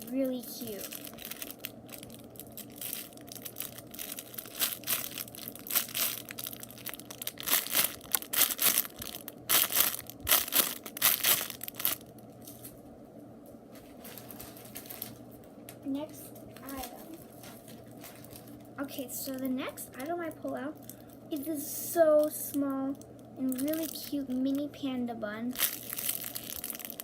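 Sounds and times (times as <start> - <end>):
plastic wrapping crinkling: 0.0 - 12.8, 13.7 - 21.2, 22.1 - 24.7, 25.4 - 27.0.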